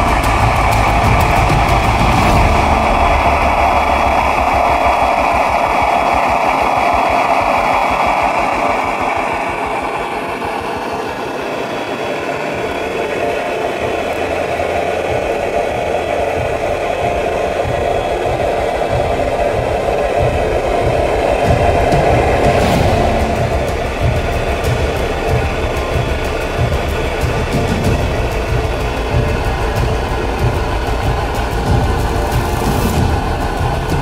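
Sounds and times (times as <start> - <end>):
pump throbbing: 0.0 - 34.0.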